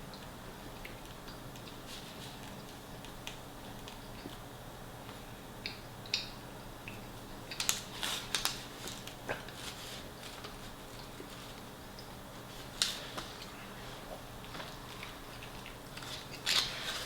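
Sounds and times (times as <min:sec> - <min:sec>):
chewing a wrap: 0:00.1 - 0:04.5, 0:05.6 - 0:17.0.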